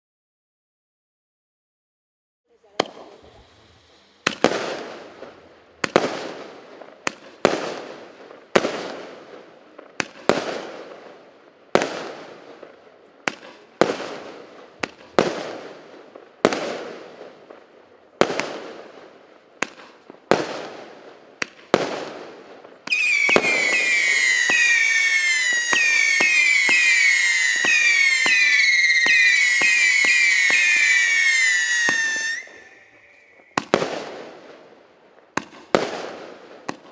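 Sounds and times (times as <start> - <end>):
whistling firework shots: 2.7 - 11.1, 11.8 - 34.8, 35.4 - 36.9
firework bangs: 2.8 - 36.9.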